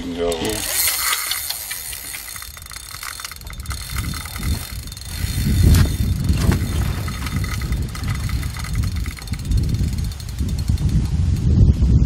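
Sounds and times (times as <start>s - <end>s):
fishing reel clicking: 0.0s - 11.5s
wind buffeting microphone: 0.0s - 12.0s.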